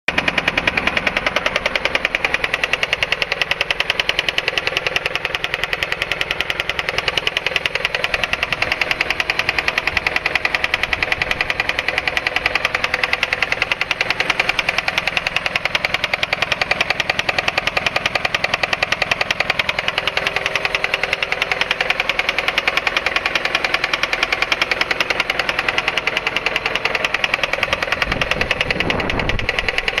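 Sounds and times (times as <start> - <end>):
car engine knocking: 0.1 - 30.0.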